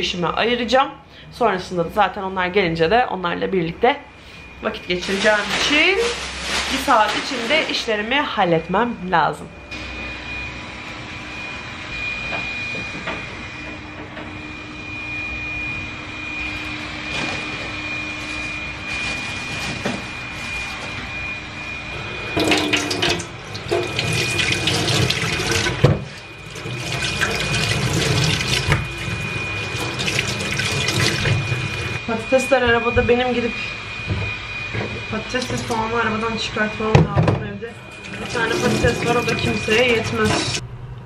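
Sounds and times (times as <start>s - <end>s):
thin high whine: 1.4s - 41.0s.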